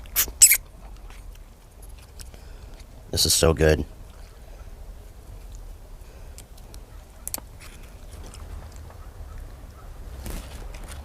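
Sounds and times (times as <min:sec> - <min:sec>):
man chewing food: 0:00.0 - 0:03.0, 0:04.0 - 0:11.0
low steady hum: 0:00.0 - 0:11.0.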